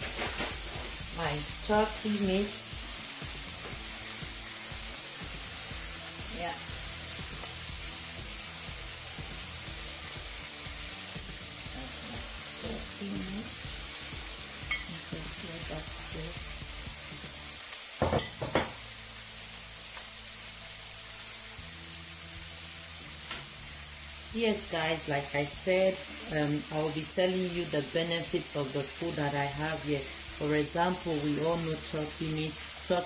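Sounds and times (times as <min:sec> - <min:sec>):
food sizzling in oil: 0:00.0 - 0:33.0.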